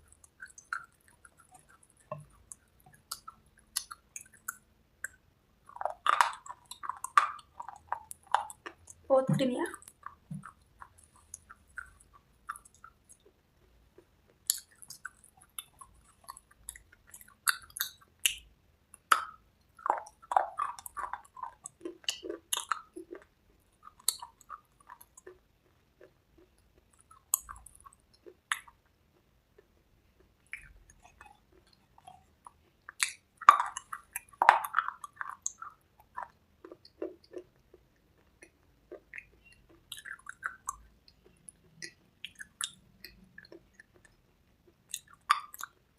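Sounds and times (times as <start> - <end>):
person chewing and crunching: 0.0 - 45.9.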